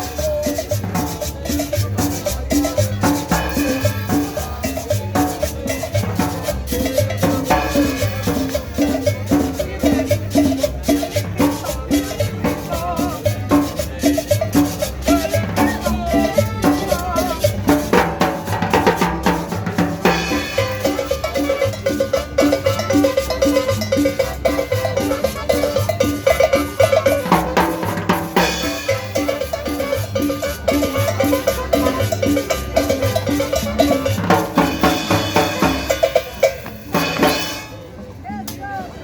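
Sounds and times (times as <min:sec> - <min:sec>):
drum and percussion beat: 0:00.0 - 0:37.9.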